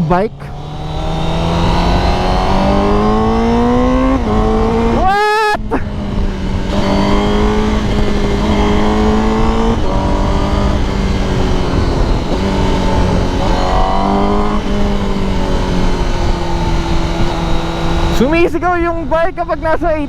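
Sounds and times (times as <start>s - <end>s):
motorcycle engine screaming: 0.0s - 20.0s
wind rush: 0.0s - 20.0s.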